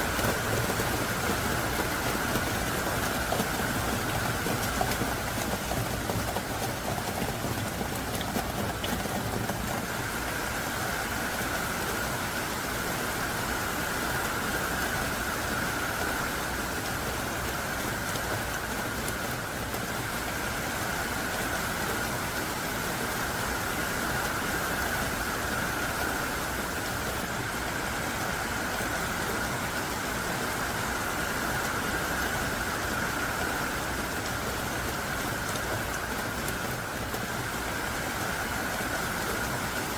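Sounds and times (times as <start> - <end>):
heavy rain downpour: 0.0 - 39.9.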